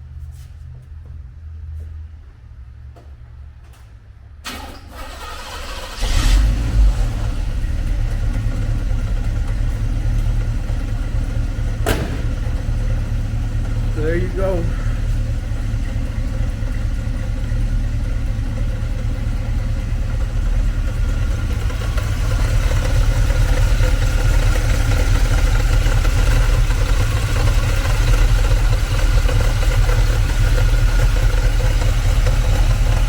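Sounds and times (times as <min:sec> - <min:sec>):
truck engine running: 0:04.4 - 0:33.0.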